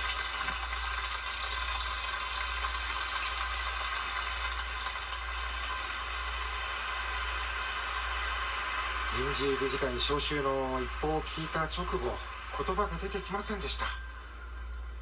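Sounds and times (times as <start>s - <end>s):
crowd applauding: 0.0s - 14.2s.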